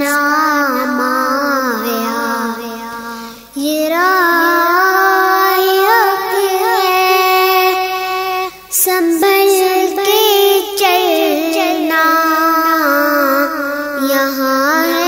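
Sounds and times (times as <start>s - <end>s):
girl singing devotional song: 0.0s - 15.0s.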